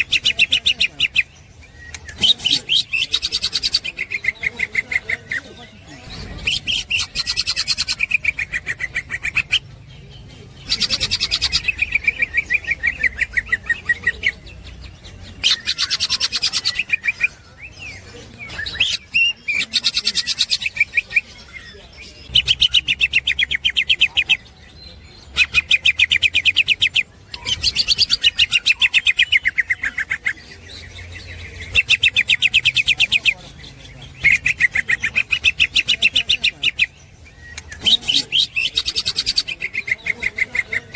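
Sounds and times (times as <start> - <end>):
bird singing chattering notes: 0.0 - 40.9.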